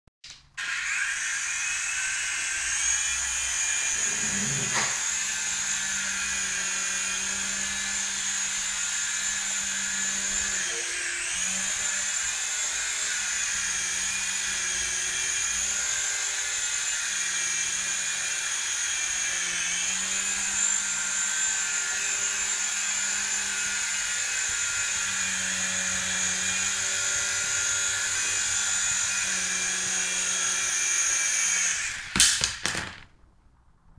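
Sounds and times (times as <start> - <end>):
electric motor high-pitched whine: 0.6 - 32.4.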